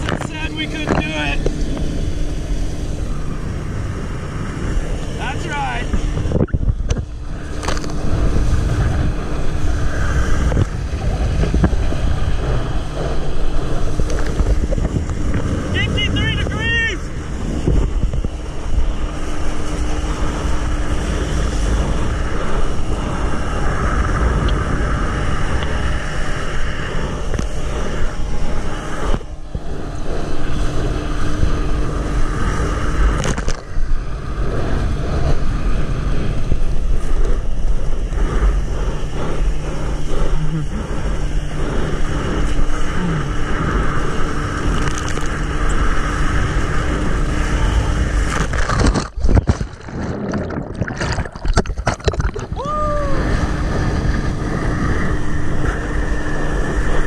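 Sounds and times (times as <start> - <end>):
outboard motor droning: 0.0 - 57.0
water rushing: 0.0 - 57.0
wind on microphone: 0.0 - 57.0.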